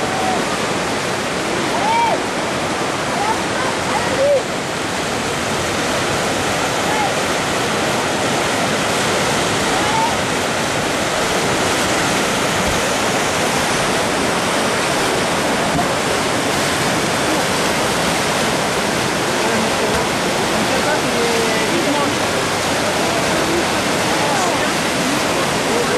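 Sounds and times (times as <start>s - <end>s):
river rapids rushing: 0.0s - 25.9s.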